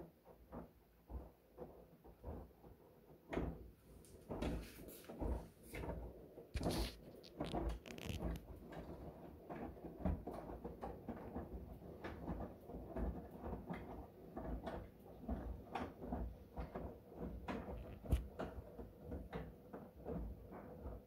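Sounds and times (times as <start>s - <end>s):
washing machine sloshing laundry: 1.3s - 21.0s.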